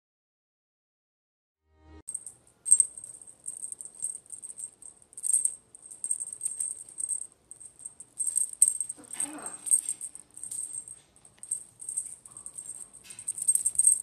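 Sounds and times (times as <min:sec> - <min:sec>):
jingle-bell toy jingling: 0:02.1 - 0:14.0.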